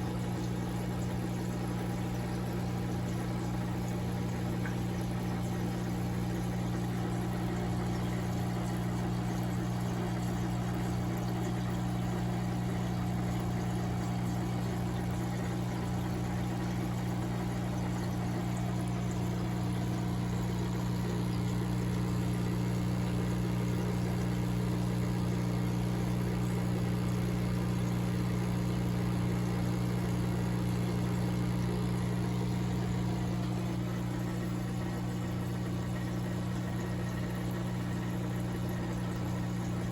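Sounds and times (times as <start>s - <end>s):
aquarium equipment humming: 0.0s - 39.9s.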